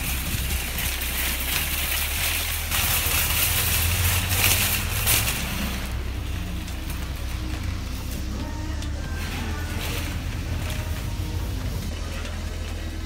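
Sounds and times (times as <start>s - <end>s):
car engine and road hum: 0.0s - 13.0s
tyre and wind noise hiss: 0.0s - 13.0s.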